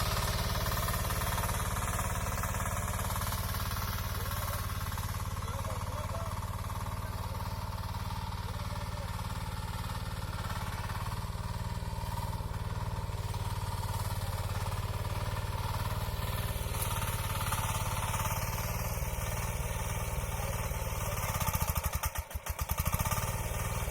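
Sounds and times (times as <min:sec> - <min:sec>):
small engine running under load: 0:00.0 - 0:23.9.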